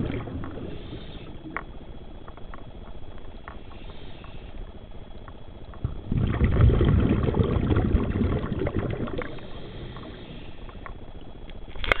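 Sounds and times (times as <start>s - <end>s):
faint crackling and clicks: 0.0s - 6.4s, 7.3s - 12.0s
underwater bubbles gurgling: 0.0s - 11.4s.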